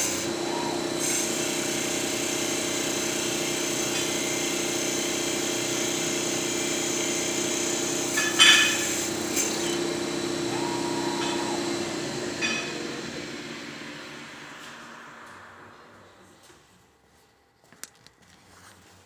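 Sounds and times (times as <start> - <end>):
wood lathe motor humming: 0.0 - 16.2.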